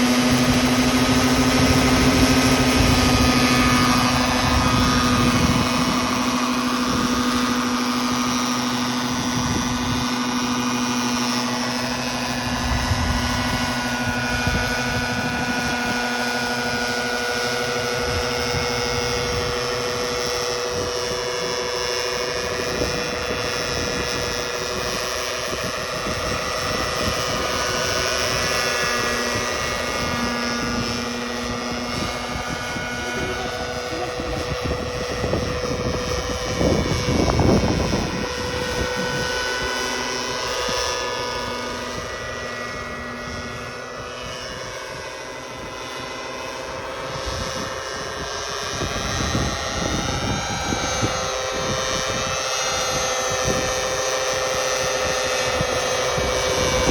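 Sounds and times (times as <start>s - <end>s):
model helicopter engine and rotors: 0.0s - 56.9s.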